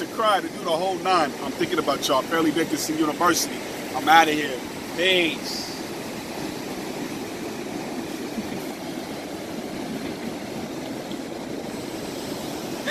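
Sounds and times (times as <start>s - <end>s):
ocean surf washing onto beach: 0.0s - 12.9s.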